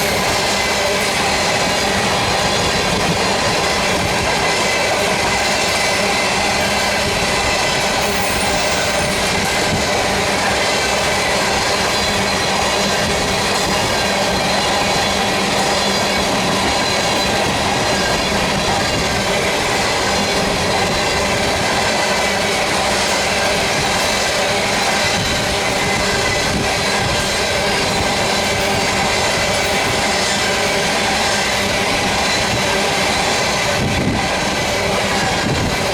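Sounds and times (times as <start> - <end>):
steel wheels rolling on rail: 0.0 - 35.9.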